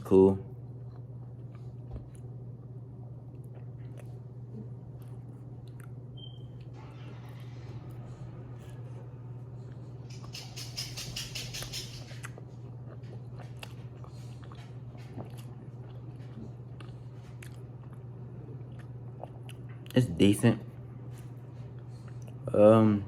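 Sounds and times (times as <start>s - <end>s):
steady low hum: 0.0s - 23.0s
person chewing pizza: 0.5s - 6.8s, 7.8s - 10.4s, 11.4s - 22.5s.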